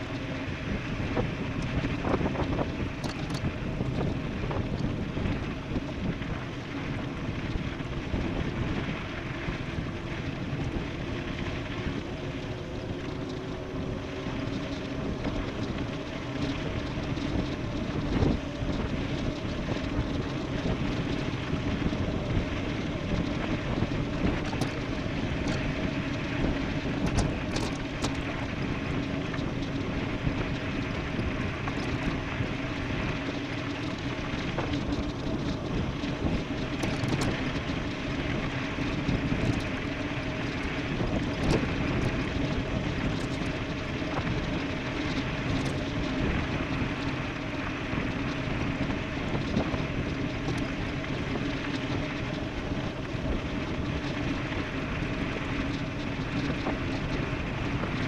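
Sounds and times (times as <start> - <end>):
steady hum: 0.0 - 58.0
wind rushing over microphone: 0.0 - 58.0.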